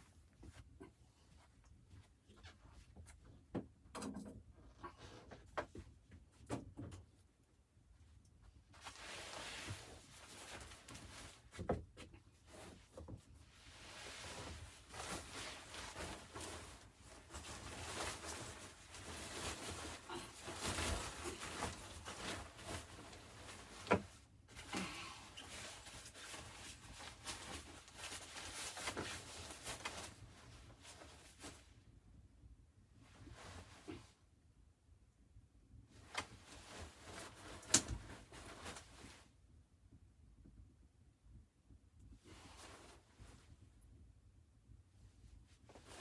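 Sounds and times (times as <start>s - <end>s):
rustling of things handled: 0.0s - 32.0s, 33.0s - 34.2s, 35.9s - 39.4s, 42.1s - 43.7s, 45.0s - 46.0s.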